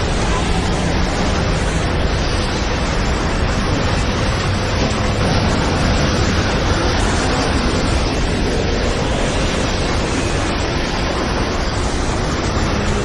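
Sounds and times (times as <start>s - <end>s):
strong wind rushing: 0.0s - 13.0s.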